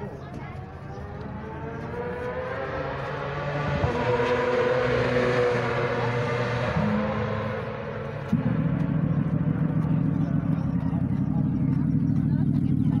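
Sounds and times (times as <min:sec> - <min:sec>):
low steady engine note close by: 0:00.0 - 0:03.9, 0:05.8 - 0:13.0
motorcycle engine passing: 0:00.5 - 0:13.0.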